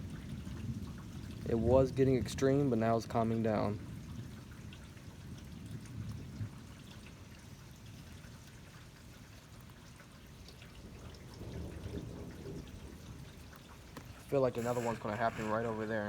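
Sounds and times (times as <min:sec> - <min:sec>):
steady rain falling: 0:00.0 - 0:16.0
water running and trickling: 0:00.0 - 0:16.0.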